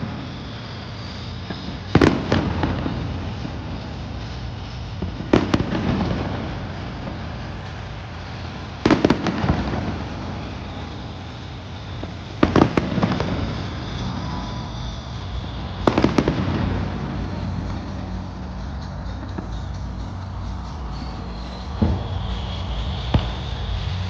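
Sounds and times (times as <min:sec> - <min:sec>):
fireworks booming: 0:00.0 - 0:24.0
fireworks crackling: 0:00.0 - 0:24.0
steady outdoor hum: 0:00.0 - 0:24.0.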